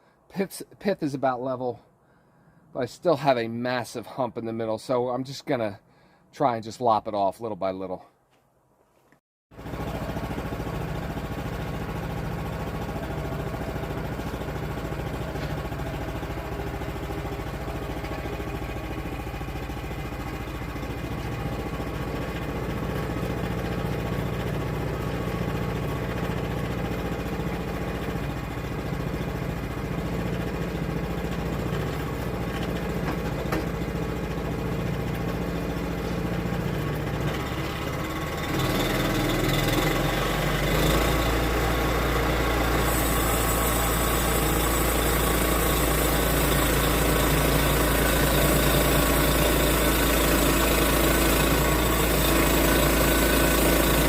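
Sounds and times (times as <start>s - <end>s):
sawmill engine running: 9.6s - 54.0s
saw cutting through log: 10.1s - 54.0s.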